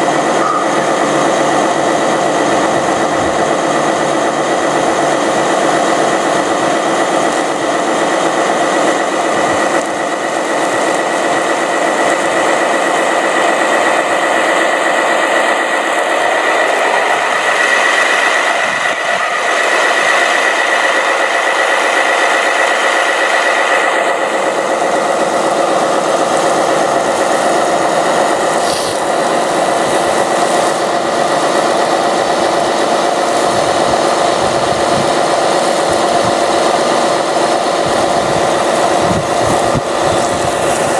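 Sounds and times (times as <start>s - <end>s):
model motors whining and rattling: 0.0s - 40.9s.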